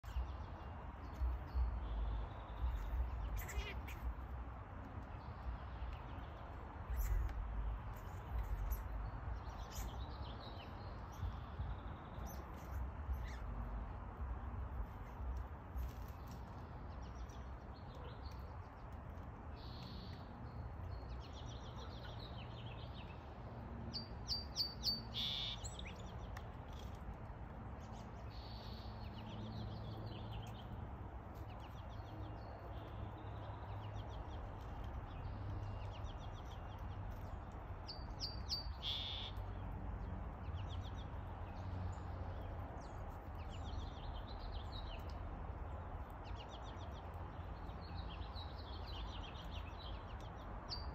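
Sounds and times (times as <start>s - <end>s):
songbirds chirping and singing: 0.0s - 26.9s, 27.6s - 50.9s.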